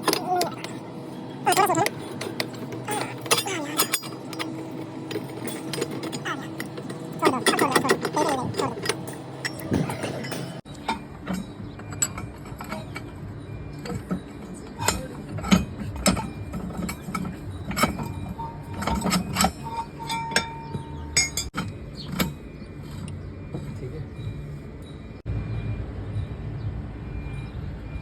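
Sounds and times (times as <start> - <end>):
metal parts clanking: 0.0 - 25.2
low machine hum: 0.0 - 28.0.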